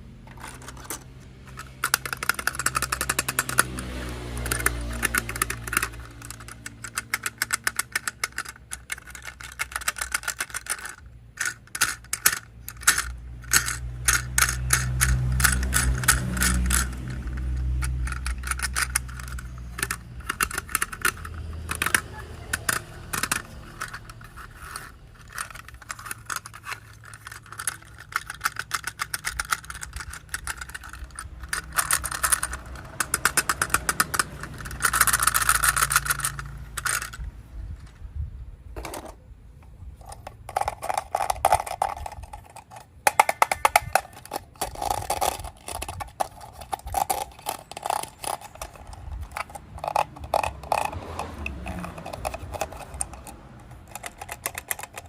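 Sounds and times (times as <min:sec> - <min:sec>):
plastic toy parts clicking and rattling: 0:00.0 - 0:38.1, 0:38.8 - 0:55.0.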